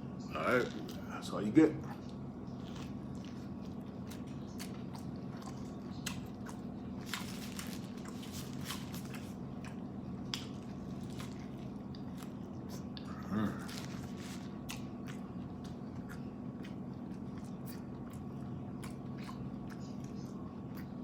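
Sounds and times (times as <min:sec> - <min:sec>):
steady low hum: 0:00.0 - 0:21.0
chewing and biting food: 0:01.8 - 0:21.0.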